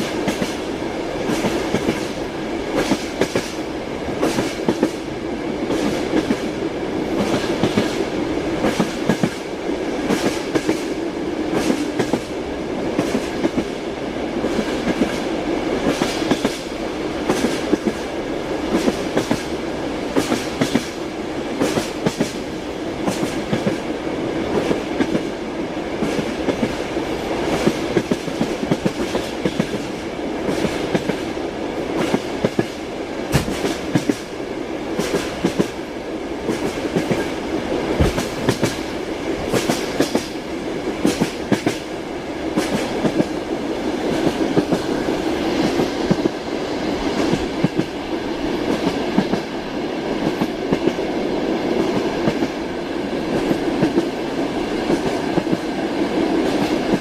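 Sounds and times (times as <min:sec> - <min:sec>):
train rumble: 0:00.0 - 0:57.0
train wheels clattering on rails: 0:00.0 - 0:57.0.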